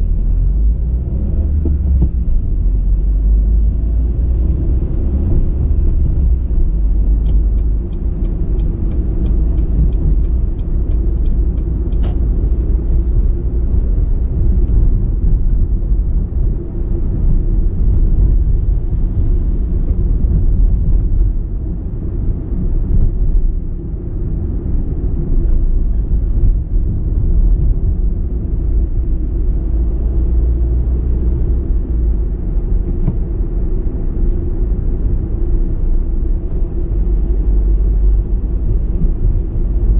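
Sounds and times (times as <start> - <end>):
engine and road noise rumble: 0.0 - 39.9.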